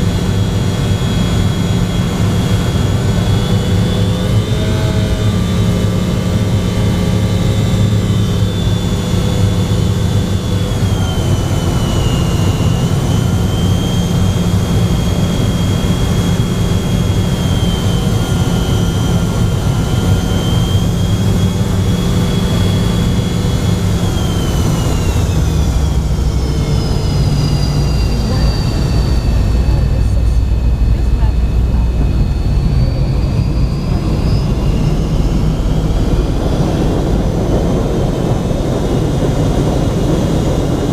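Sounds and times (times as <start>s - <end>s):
jet engine drone and whine: 0.0s - 40.9s.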